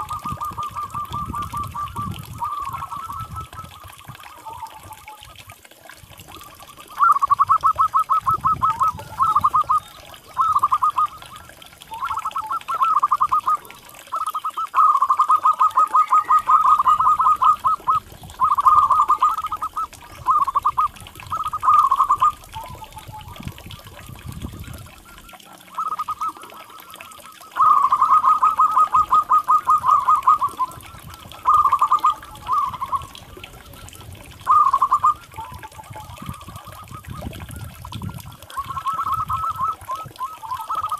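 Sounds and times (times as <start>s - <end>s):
dove calling staccato notes: 0.0s - 40.9s.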